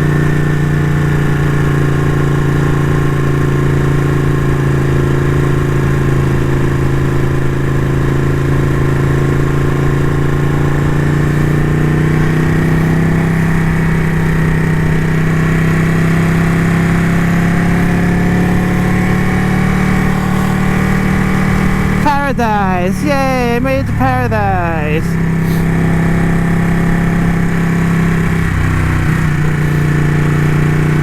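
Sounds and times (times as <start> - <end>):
motorcycle engine running: 0.0 - 22.0, 25.2 - 31.0.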